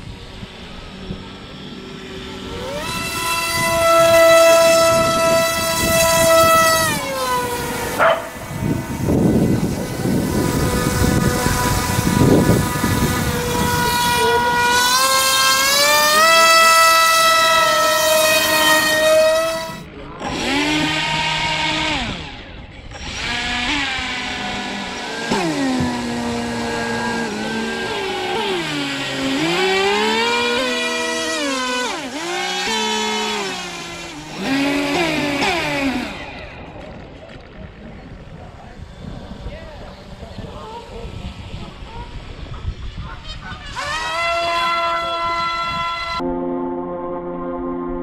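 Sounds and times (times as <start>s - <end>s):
electric motor whining: 0.0s - 46.3s.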